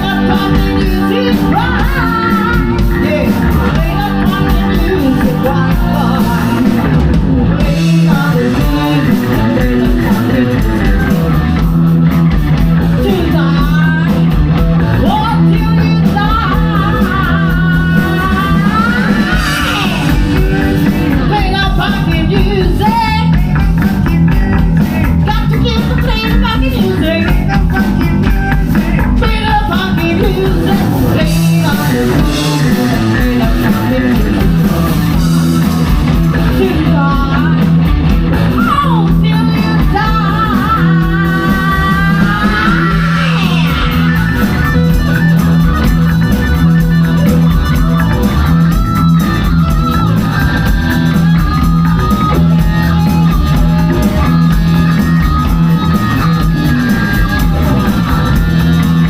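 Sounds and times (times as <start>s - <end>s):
person singing: 0.0s - 11.7s, 12.6s - 59.0s
bass guitar: 0.0s - 59.0s
electric guitar: 0.0s - 59.0s.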